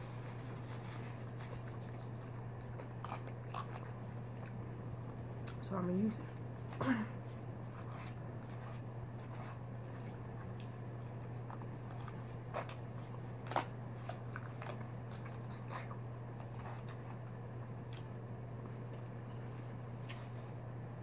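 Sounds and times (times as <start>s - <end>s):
steady low hum: 0.0s - 21.0s
soft chewing: 0.1s - 20.6s.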